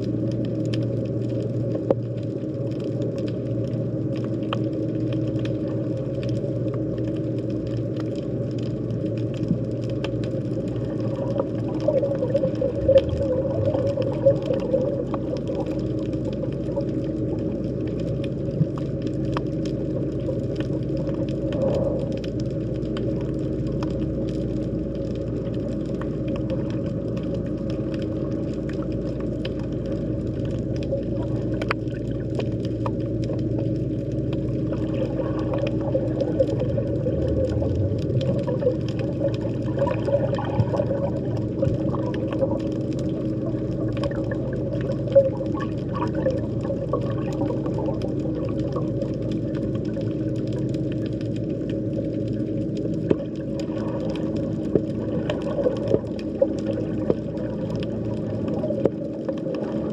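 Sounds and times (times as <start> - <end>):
faint underwater clicks and crackles: 0.0 - 59.9
underwater drone and hum: 0.0 - 59.9.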